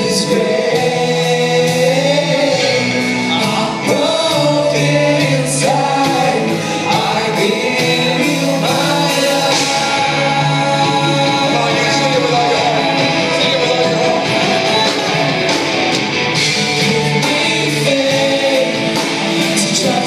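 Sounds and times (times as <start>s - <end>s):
congregation singing: 0.0s - 20.0s
worship band playing: 0.0s - 20.0s.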